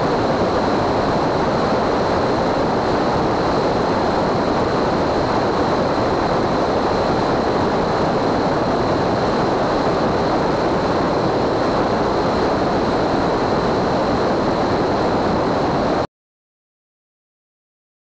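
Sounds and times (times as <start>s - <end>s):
wind and engine noise: 0.0s - 16.1s.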